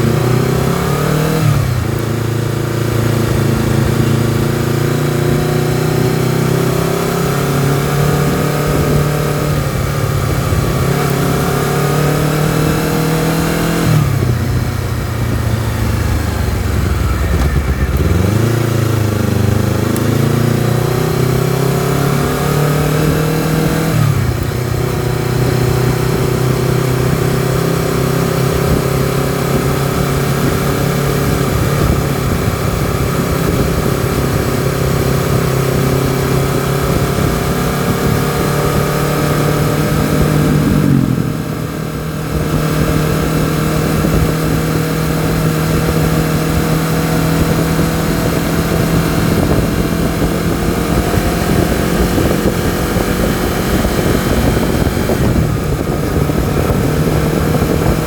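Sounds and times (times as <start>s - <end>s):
motorcycle engine running: 0.0s - 58.0s
wind rush: 2.8s - 58.0s.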